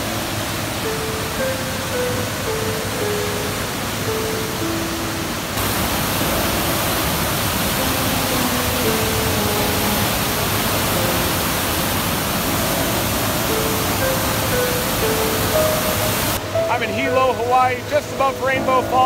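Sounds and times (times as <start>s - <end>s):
floodwater rushing over rapids: 0.0s - 19.0s
soft background music: 0.0s - 19.0s.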